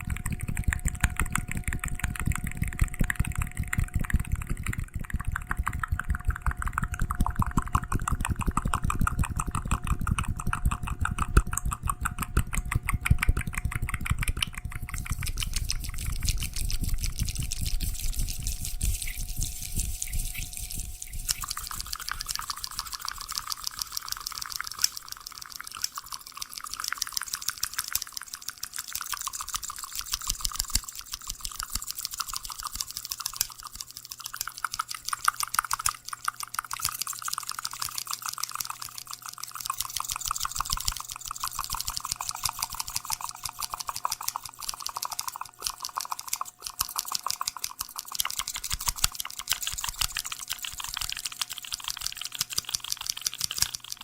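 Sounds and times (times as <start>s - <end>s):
rapid small crisp clicks: 0.0s - 54.0s.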